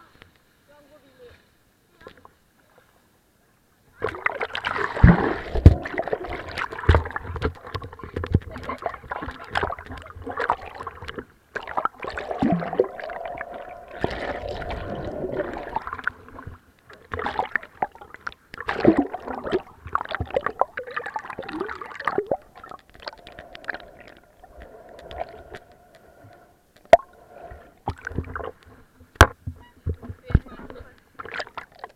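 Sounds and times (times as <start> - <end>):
pool water sloshing and gurgling: 4.0 - 31.9.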